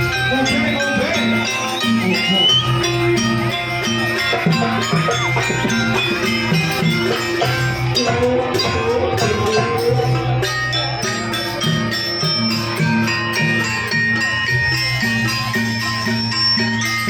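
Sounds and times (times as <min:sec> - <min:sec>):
drums and gong-chime ensemble: 0:00.0 - 0:17.0
jingling bells: 0:00.0 - 0:17.0.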